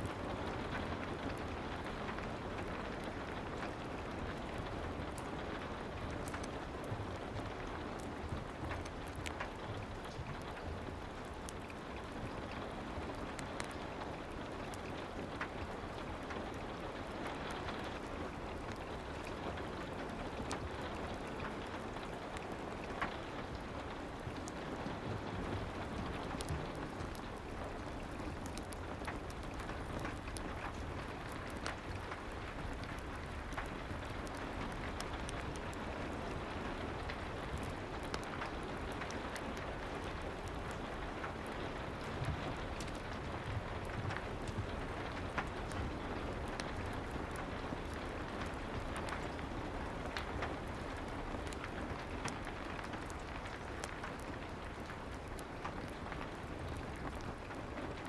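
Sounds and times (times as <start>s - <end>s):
fireplace crackles: 0.0s - 58.0s
soft steady rain: 0.0s - 58.0s.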